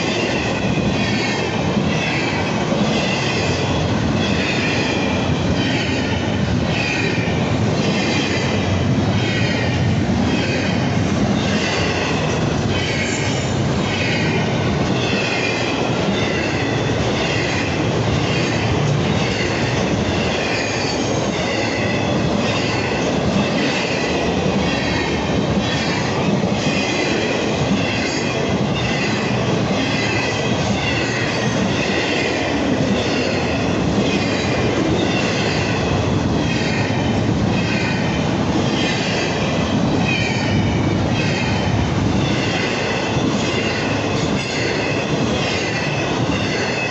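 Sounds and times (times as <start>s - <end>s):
train clatter: 0.0s - 46.9s
train wheels rumbling on rail: 0.0s - 46.9s.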